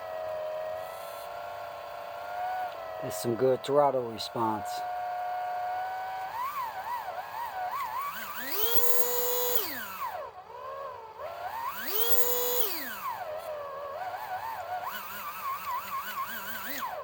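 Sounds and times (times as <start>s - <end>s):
slot car motor whining: 0.0s - 17.0s.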